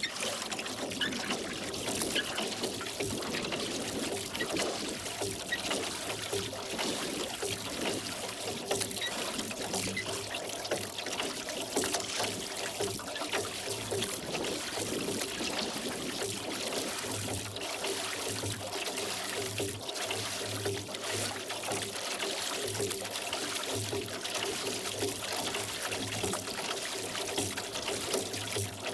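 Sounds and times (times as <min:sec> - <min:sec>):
oars dipping and dripping: 0:00.0 - 0:28.9
water trickling and splashing: 0:00.0 - 0:28.9.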